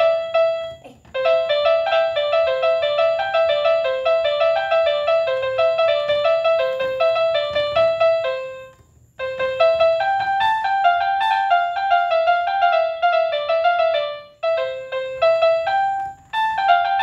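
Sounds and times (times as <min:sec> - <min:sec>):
electric keyboard playing quick notes: 0:00.0 - 0:17.0.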